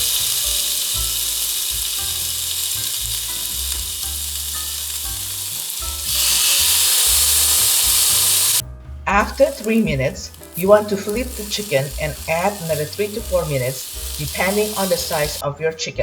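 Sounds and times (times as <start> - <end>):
chicken sizzling on a grill: 0.0 - 15.4.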